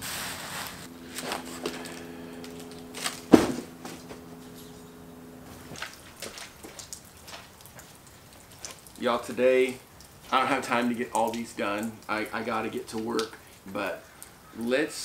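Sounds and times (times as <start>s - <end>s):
steady hum: 0.0s - 12.7s.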